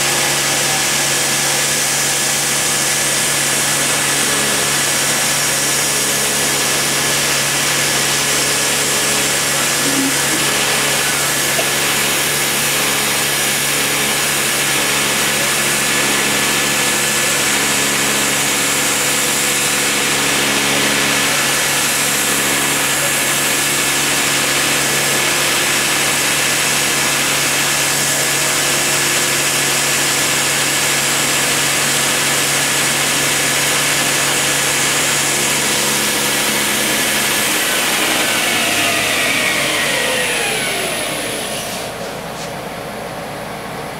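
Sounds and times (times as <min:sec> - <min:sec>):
low machine hum: 0:00.0 - 0:25.8, 0:33.0 - 0:43.9
rotary tool high whine: 0:00.0 - 0:43.1.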